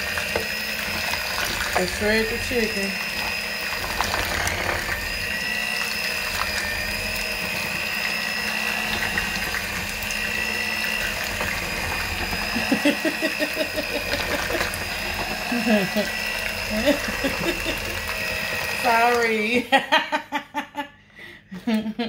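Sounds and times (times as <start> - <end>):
electric hand mixer whining: 0.0 - 20.8.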